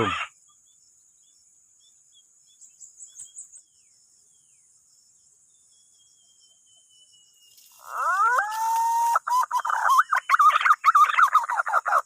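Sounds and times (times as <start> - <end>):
birds chirping: 0.0 - 12.0
crickets buzzing: 0.0 - 12.0.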